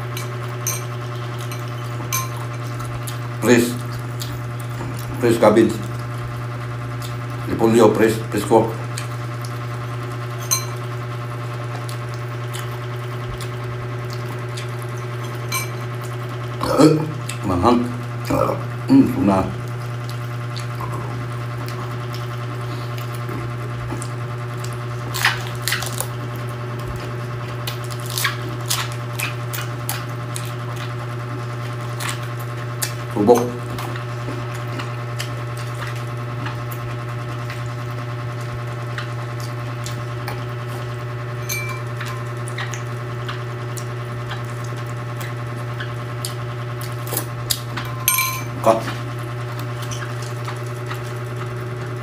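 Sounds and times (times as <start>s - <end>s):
crunching chewing of cabbage: 0.0s - 52.0s
steady low hum: 0.0s - 52.0s.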